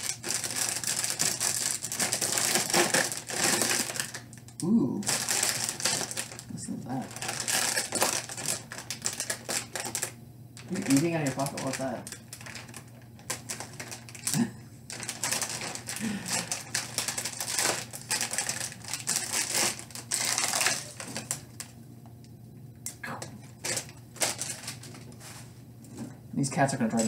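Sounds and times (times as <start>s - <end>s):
plastic bag crinkling: 0.0s - 21.8s, 23.4s - 26.2s.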